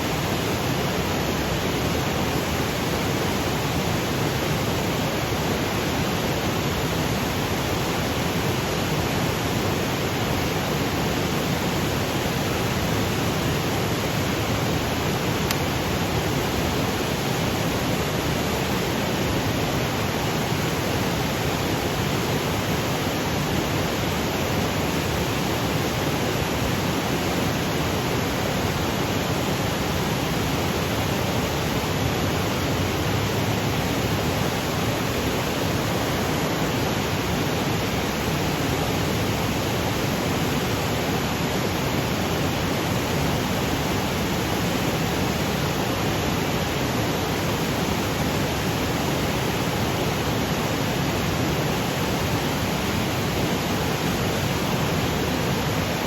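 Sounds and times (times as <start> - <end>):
waterfall over rocks: 0.0 - 56.0.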